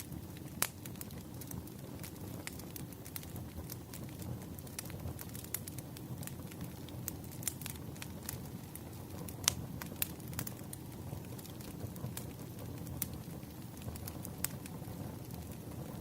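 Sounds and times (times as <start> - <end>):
fire rumbling: 0.0 - 16.0
firewood crackling and popping: 0.0 - 16.0.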